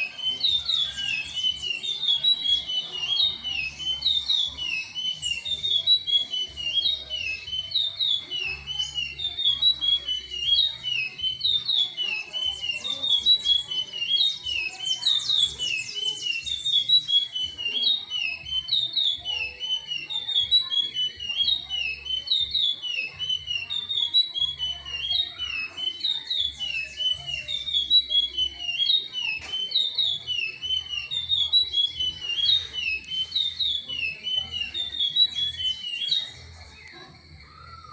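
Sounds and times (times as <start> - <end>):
finch singing whistled notes: 0.0 - 37.9.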